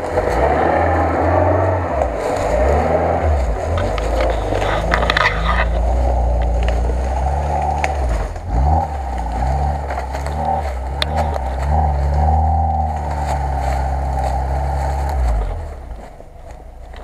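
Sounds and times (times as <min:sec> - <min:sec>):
off-road engine revving: 0:00.0 - 0:17.0
scraping and cracking: 0:00.0 - 0:17.0.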